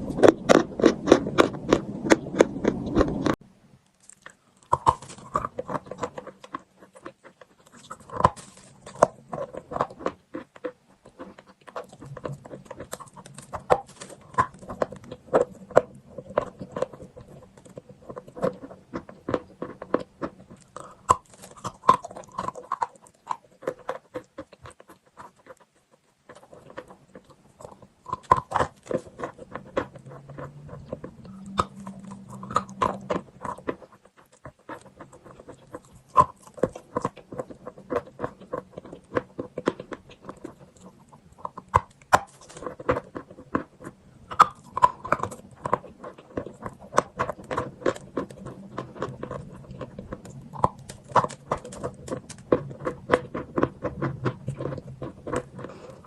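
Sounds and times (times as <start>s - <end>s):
chalk being chewed: 0.0s - 56.0s.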